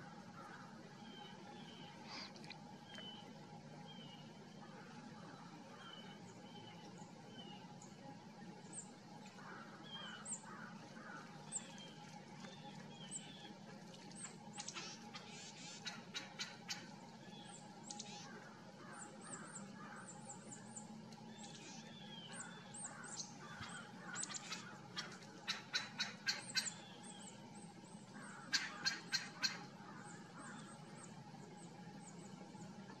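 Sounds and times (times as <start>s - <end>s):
small birds chirping: 0.4s - 33.0s.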